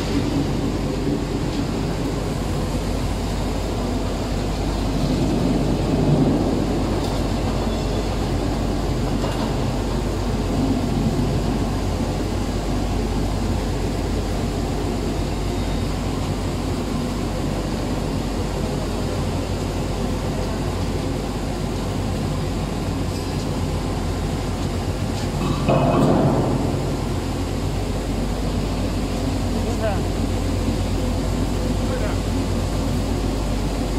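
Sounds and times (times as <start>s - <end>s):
low electric hum: 0.0s - 33.9s
machine drone: 0.0s - 33.9s.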